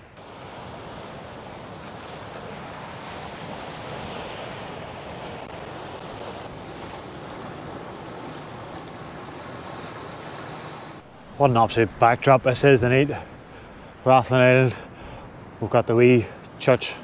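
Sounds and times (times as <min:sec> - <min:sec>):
waves breaking on rocks: 0:00.0 - 0:15.7
wind blowing: 0:00.0 - 0:16.6.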